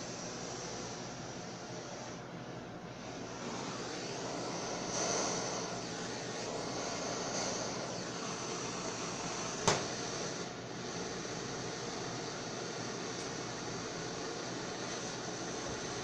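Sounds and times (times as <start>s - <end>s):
kitchen machinery hiss: 0.0s - 16.0s.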